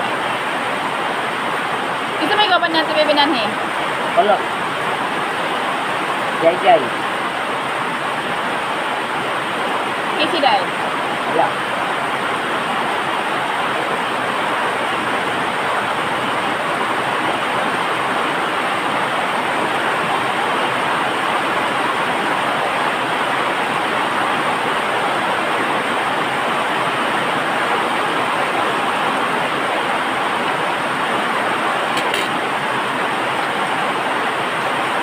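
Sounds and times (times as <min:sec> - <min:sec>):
loud steady rushing noise: 0:00.0 - 0:35.0.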